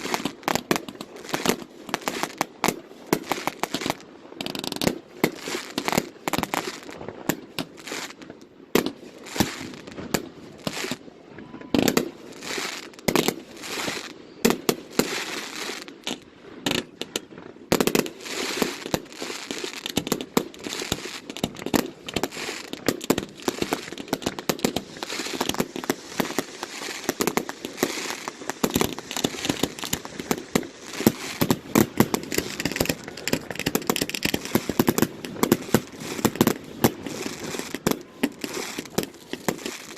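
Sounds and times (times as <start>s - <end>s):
fireworks bursting: 0.0s - 39.9s
fireworks crackling: 0.0s - 39.9s.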